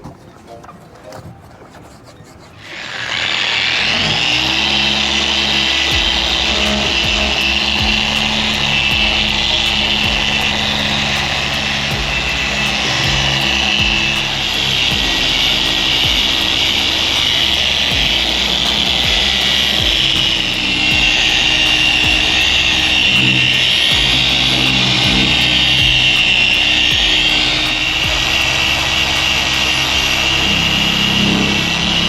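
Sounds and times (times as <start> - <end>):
electric polisher whining: 2.7 - 32.0
background music: 3.6 - 32.0.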